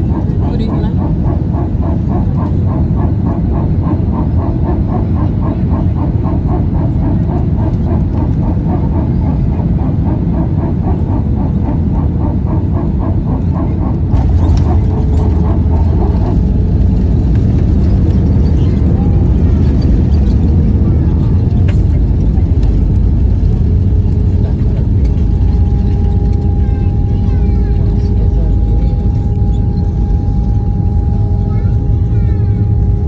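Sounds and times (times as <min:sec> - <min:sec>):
airliner engine rumble pulsing: 0:00.0 - 0:33.0.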